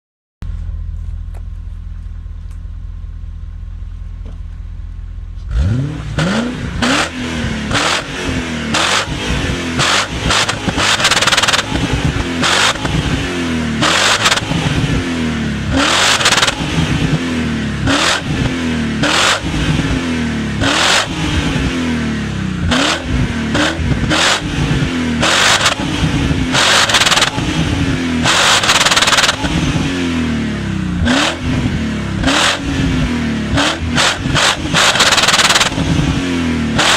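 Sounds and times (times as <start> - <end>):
car engine idling: 0.4 - 36.9
engine revving in throttle blips: 5.4 - 36.9.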